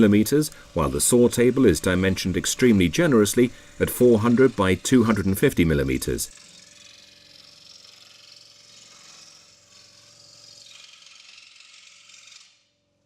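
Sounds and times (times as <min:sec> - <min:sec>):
scroll saw cutting: 0:00.0 - 0:12.8.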